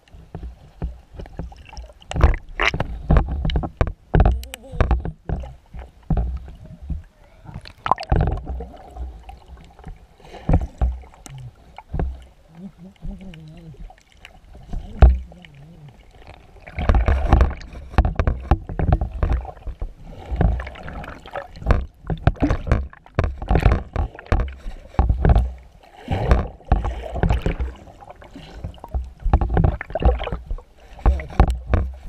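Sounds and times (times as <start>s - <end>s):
water splashing and bubbling: 0.0s - 32.0s.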